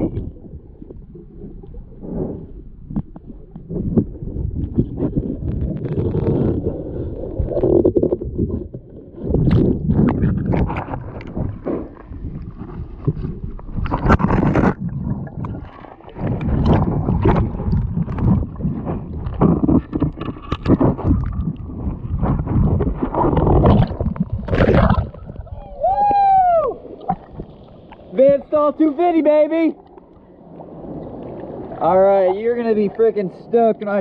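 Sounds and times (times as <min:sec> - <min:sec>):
muffled underwater churning: 0:00.0 - 0:34.0.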